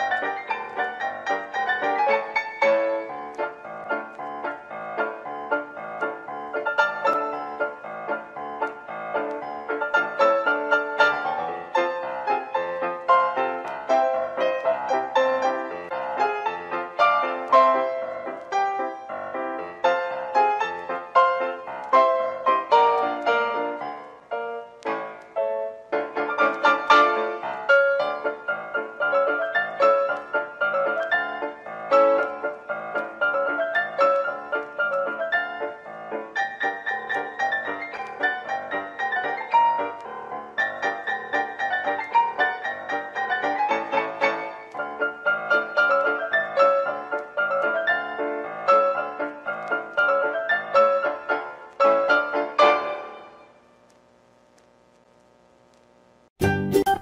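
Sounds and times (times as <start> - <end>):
piano music: 0.0 - 53.6, 56.4 - 57.0.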